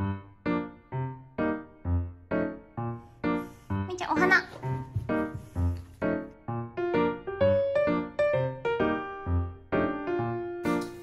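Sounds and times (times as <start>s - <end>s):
light piano music: 0.0s - 11.0s.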